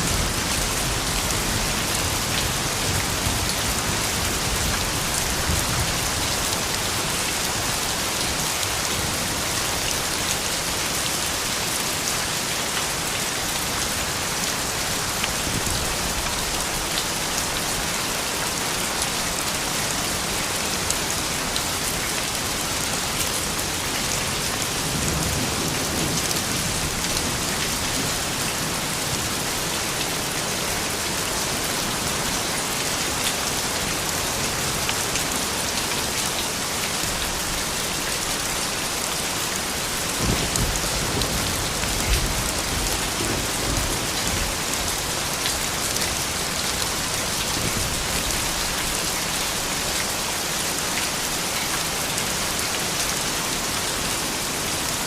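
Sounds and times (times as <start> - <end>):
soft steady rain: 0.0 - 55.0.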